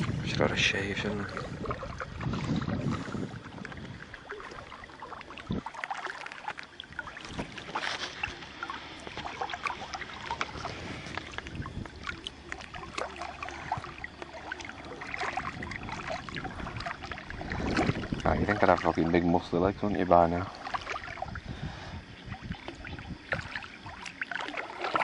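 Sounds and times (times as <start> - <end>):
small splashes and drips: 0.0 - 25.0
water lapping and splashing: 0.0 - 25.0.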